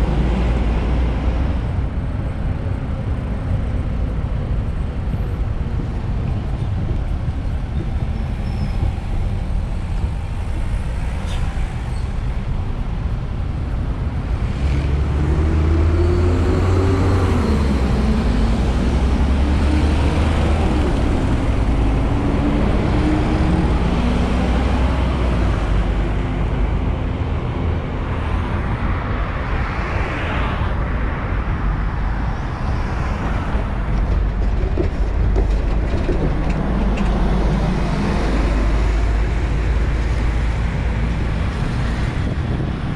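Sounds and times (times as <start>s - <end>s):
cars passing: 0.0s - 42.9s
heavy bus engine: 0.0s - 42.9s.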